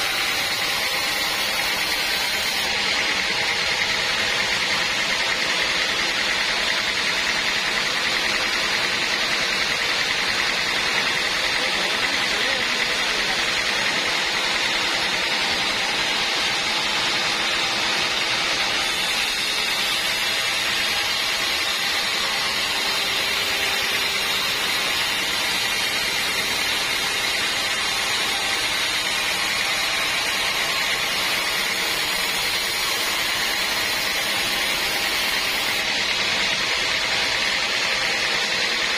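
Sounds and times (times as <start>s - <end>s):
band saw running: 0.0s - 38.9s.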